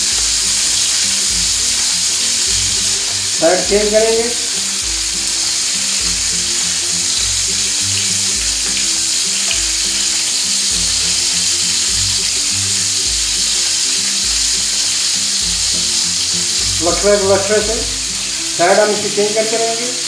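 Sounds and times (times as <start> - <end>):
background music with low beat: 0.0 - 19.9
meat sizzling in hot oil: 0.0 - 20.0.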